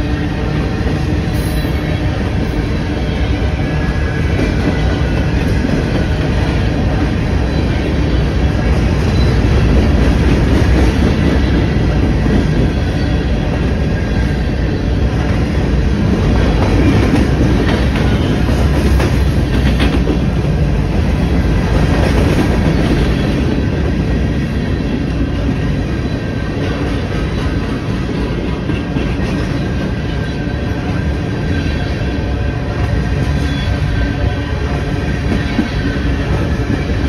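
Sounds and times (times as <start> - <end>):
steel wheels clattering on rails: 0.0 - 32.0
freight train rumbling past: 0.0 - 37.0.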